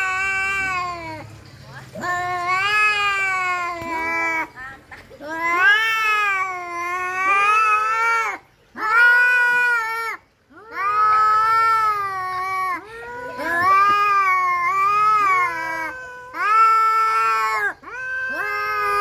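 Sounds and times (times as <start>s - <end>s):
cats yowling: 0.0s - 1.3s, 2.0s - 4.5s, 5.2s - 19.0s.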